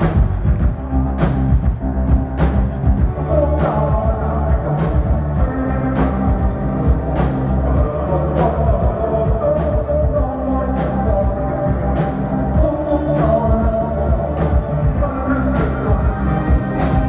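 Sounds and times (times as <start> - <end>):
drums: 0.0 - 17.0
heavy synth bass: 0.0 - 17.0
man singing into microphone: 3.0 - 17.0.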